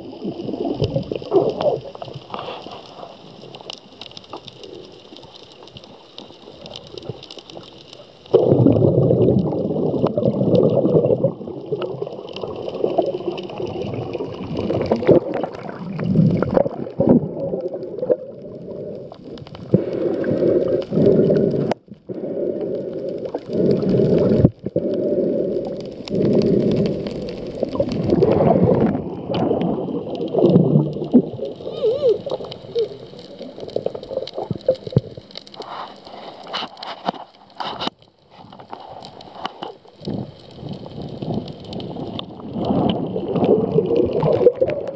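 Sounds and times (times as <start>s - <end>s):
muffled underwater water rushing: 0.0s - 44.9s.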